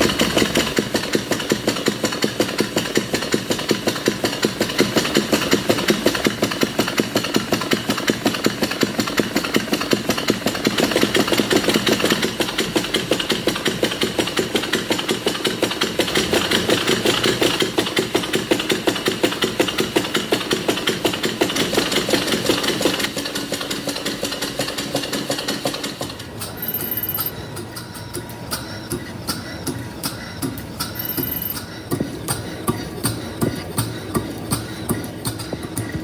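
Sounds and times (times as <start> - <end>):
small model engine running: 0.0 - 36.0.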